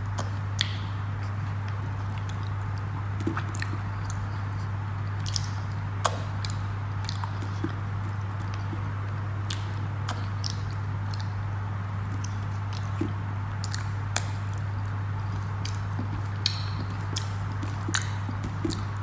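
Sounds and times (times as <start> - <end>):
person chewing food: 0.0 - 19.0
steady low hum: 0.0 - 19.0
wet mouth clicks: 0.1 - 8.8, 9.4 - 11.4, 12.0 - 19.0.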